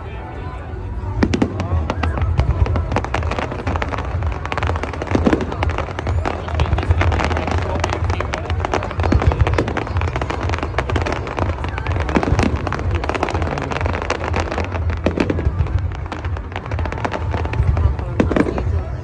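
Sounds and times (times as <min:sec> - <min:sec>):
fireworks bangs and crackling: 0:01.0 - 0:19.0.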